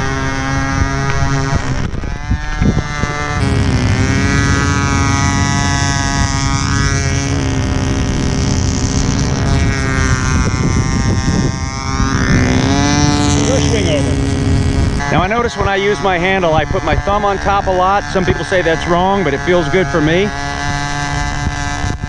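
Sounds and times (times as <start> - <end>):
model plane engine running: 0.0 - 22.0
wind on microphone: 0.0 - 22.0.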